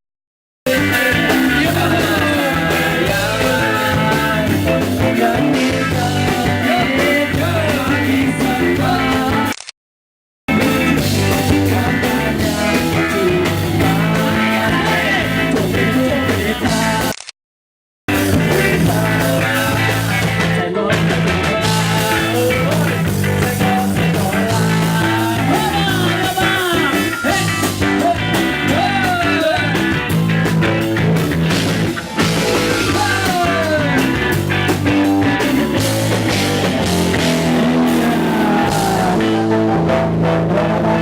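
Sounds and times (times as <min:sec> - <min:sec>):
repeating bass line: 0:00.7 - 0:09.4, 0:10.5 - 0:17.1, 0:18.1 - 0:41.0
electric guitar: 0:00.7 - 0:09.6, 0:10.5 - 0:17.2, 0:18.1 - 0:41.0
rock song: 0:00.7 - 0:09.6, 0:10.5 - 0:17.2, 0:18.1 - 0:41.0.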